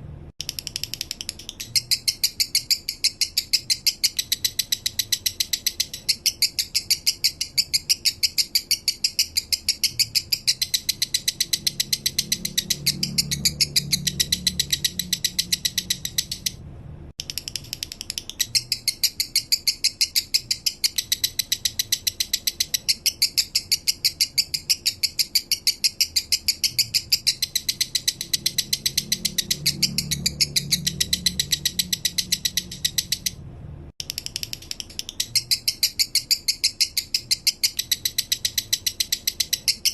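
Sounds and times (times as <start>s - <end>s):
lovebird chirping song: 0.4s - 16.6s, 17.2s - 33.4s, 34.0s - 39.9s.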